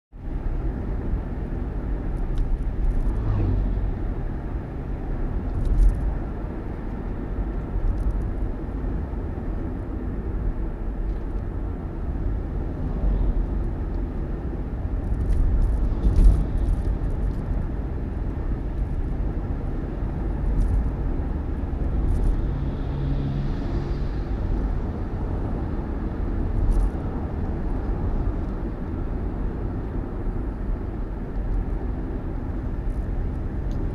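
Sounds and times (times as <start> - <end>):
vehicle engine and road rumble: 0.1 - 33.9.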